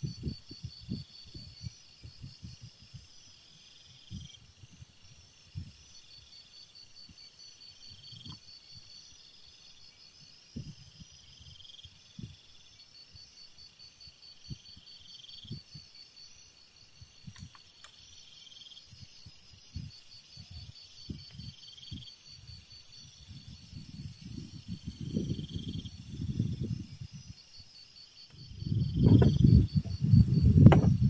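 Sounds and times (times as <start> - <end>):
night insects trilling: 0.0 - 31.0.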